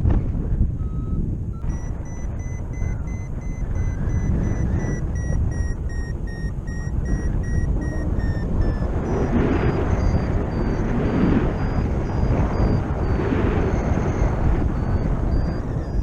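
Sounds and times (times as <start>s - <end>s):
wind across microphone: 0.0s - 16.0s
variometer short beeps: 0.8s - 16.0s.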